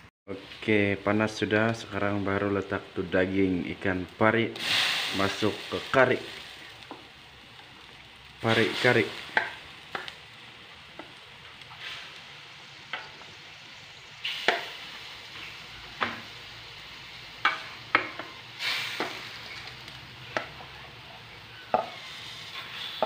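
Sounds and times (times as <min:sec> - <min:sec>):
curry sizzling: 0:00.0 - 0:23.0.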